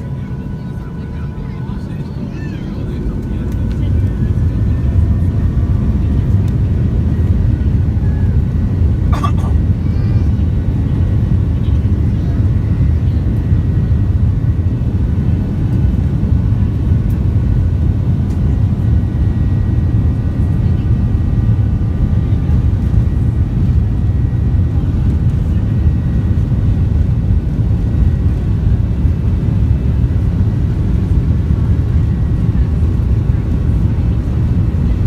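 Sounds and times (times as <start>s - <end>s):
jet engine rumble in cabin: 0.0s - 35.0s.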